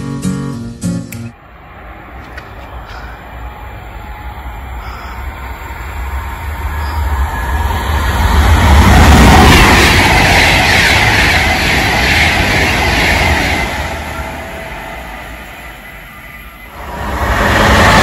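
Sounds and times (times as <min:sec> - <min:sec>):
train passing at speed: 0:01.3 - 0:18.0.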